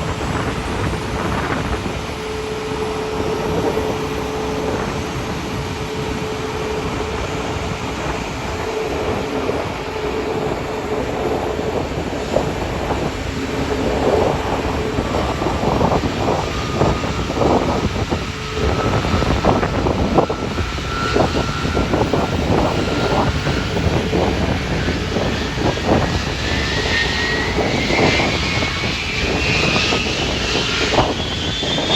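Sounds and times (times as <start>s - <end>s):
airliner rumbling: 0.0s - 31.9s
high engine whine: 0.0s - 31.9s.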